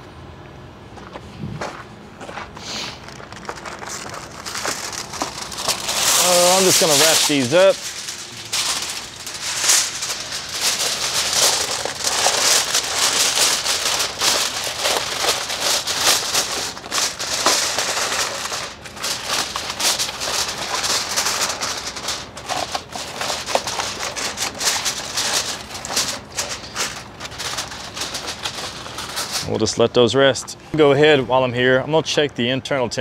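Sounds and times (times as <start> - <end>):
aluminium foil crinkling: 2.9 - 30.0.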